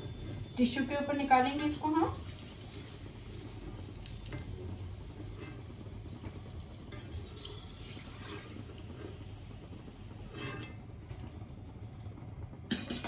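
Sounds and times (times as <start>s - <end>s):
pakoras sizzling in hot oil: 0.0s - 13.0s.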